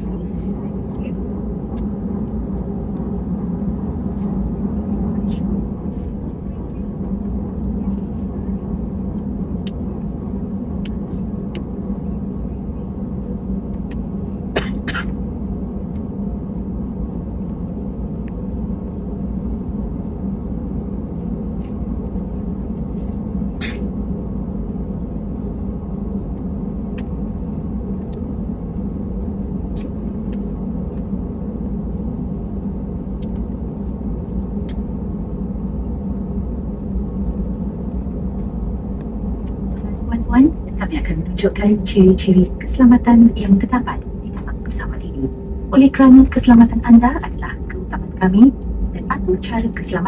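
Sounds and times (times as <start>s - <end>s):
aircraft cabin drone: 0.0s - 50.0s.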